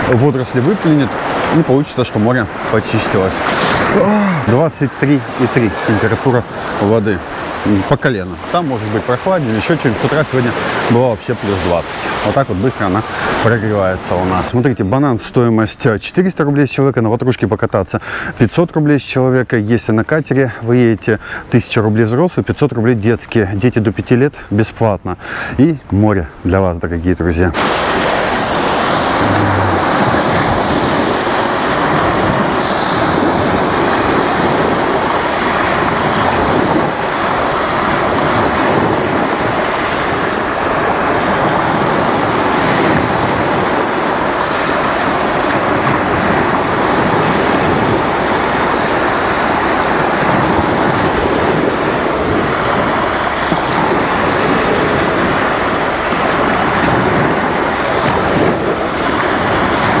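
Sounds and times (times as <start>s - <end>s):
waves breaking on sandy shore: 0.0s - 60.0s.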